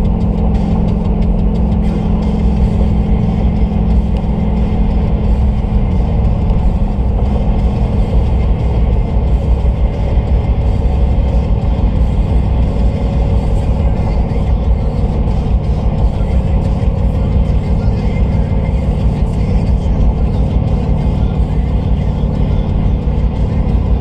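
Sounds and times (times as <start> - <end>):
engine drone: 0.0 - 24.0
road and engine rumble: 0.0 - 24.0.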